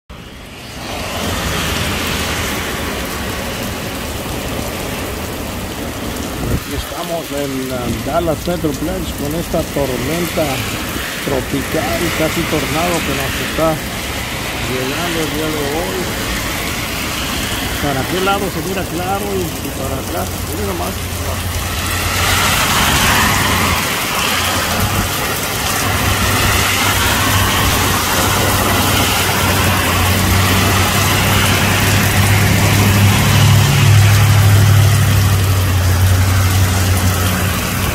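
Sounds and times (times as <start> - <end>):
heavy rain on pavement: 0.1 - 37.9
vehicle passing on wet road: 0.1 - 37.9.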